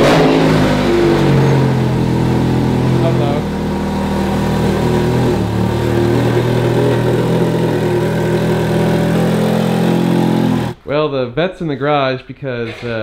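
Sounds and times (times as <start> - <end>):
car engine running at low revs: 0.0 - 10.8.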